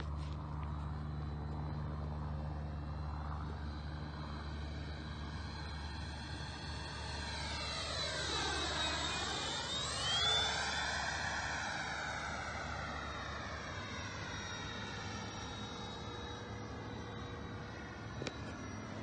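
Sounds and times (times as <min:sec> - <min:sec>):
model jet fan whining: 0:00.0 - 0:19.0.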